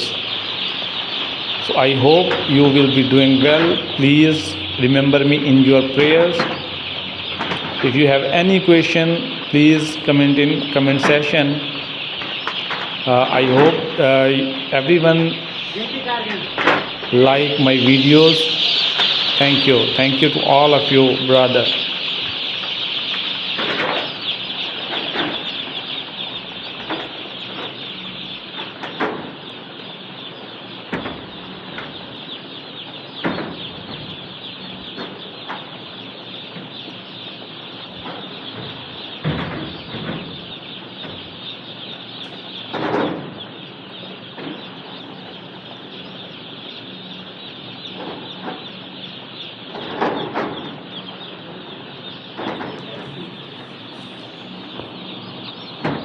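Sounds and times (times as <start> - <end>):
scattered knocks: 0.0 - 14.7, 15.4 - 45.0, 47.9 - 56.0
chicks peeping: 0.0 - 56.0.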